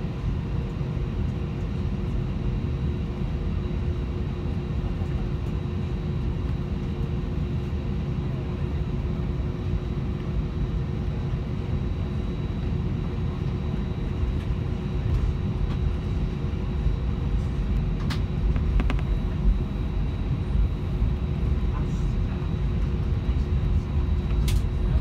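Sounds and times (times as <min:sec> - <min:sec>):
constant hum: 0:00.0 - 0:25.0
jet engines rumbling: 0:00.0 - 0:25.0.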